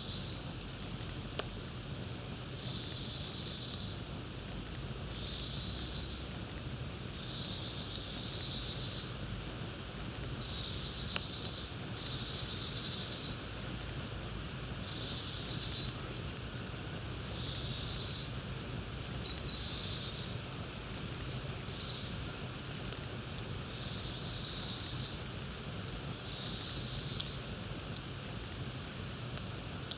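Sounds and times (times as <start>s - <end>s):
campfire crackling: 0.0s - 29.9s
sharp pops of fire: 0.0s - 29.9s.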